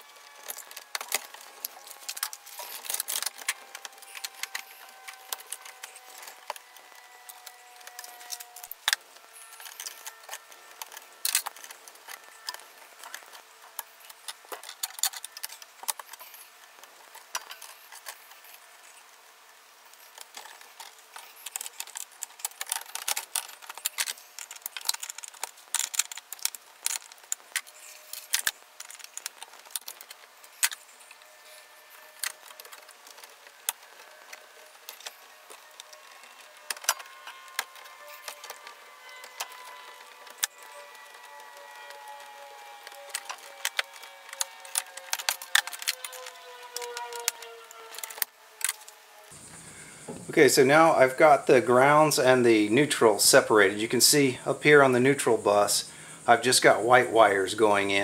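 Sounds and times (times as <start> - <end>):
metallic clicks and rattles of tools: 0.2 - 18.6, 20.1 - 42.0, 42.8 - 49.0.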